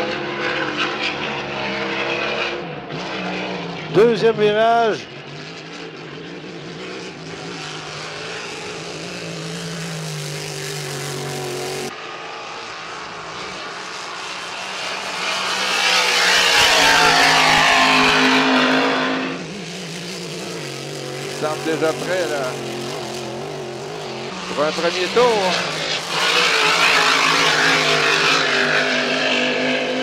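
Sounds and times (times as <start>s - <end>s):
boat engine passing close by: 5.6s - 30.0s
boat engine high drone: 5.8s - 30.0s.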